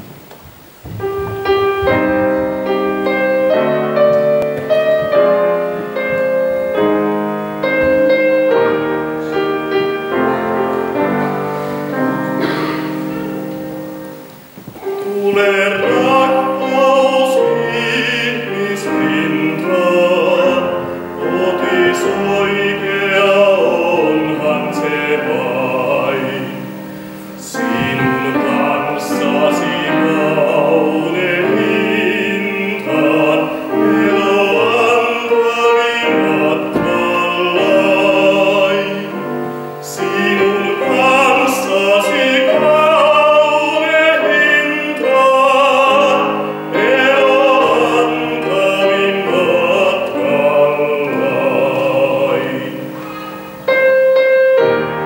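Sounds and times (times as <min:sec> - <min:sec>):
grand piano playing: 0:00.0 - 0:55.0
man singing classical with vibrato: 0:00.0 - 0:55.0.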